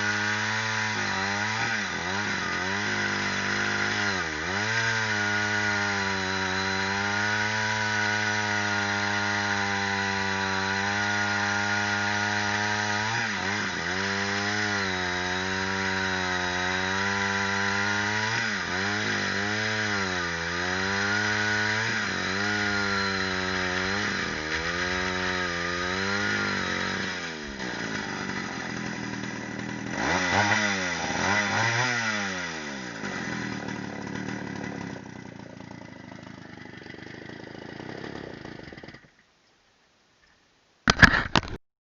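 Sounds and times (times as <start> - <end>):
chainsaw engine revving: 0.0 - 39.2.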